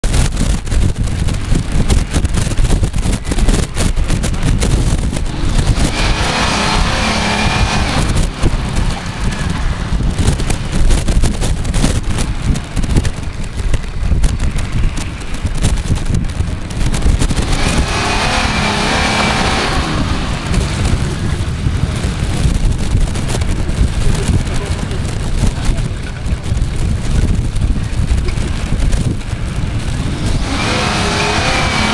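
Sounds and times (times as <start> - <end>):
car engine running: 0.0 - 31.9
wind rumble on microphone: 0.0 - 31.9.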